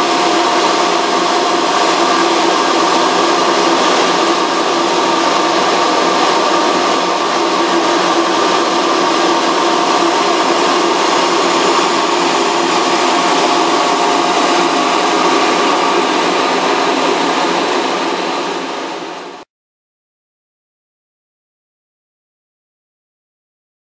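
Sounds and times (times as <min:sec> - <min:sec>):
machine whir with hum tones: 0:00.0 - 0:19.5.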